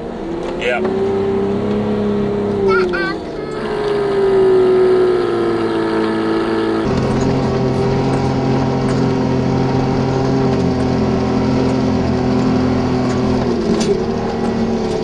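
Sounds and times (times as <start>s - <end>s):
vehicle engine running under load: 0.0s - 15.0s.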